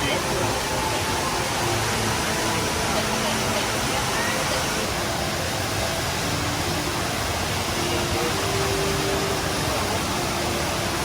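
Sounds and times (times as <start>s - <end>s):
indoor waterfall rushing: 0.0s - 11.0s.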